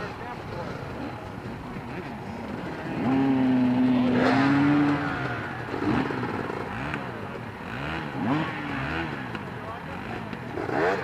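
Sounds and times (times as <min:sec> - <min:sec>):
motorcycle engine revving: 0:00.0 - 0:11.0
motorcycle engines idling: 0:00.0 - 0:11.0.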